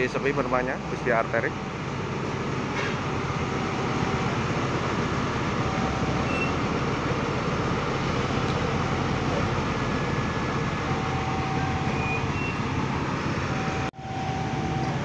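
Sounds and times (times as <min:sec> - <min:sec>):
diesel bus engines running: 0:00.0 - 0:15.0.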